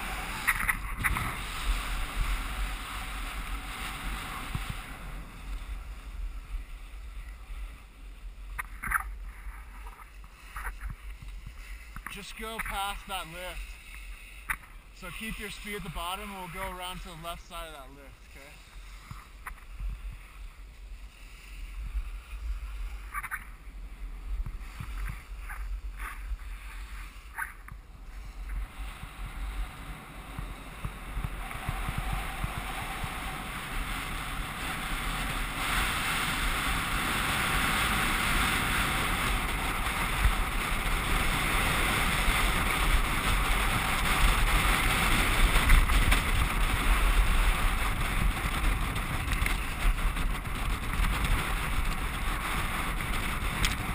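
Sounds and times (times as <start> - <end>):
skis hissing on packed snow: 0.0 - 8.5, 9.2 - 23.1, 23.8 - 50.6
wind buffeting microphone: 0.0 - 53.9.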